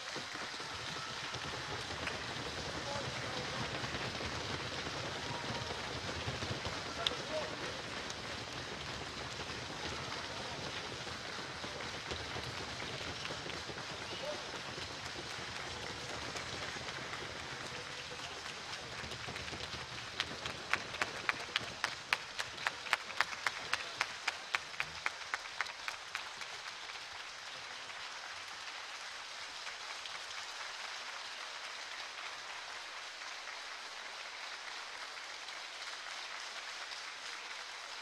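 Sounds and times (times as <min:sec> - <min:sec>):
audience applauding: 0:00.0 - 0:38.0
loud evenly timed claps: 0:00.0 - 0:38.0.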